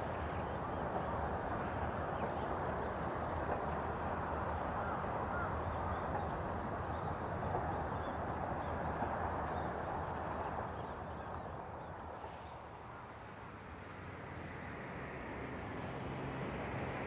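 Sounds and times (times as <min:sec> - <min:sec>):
distant electric train rumble: 0:00.0 - 0:17.0.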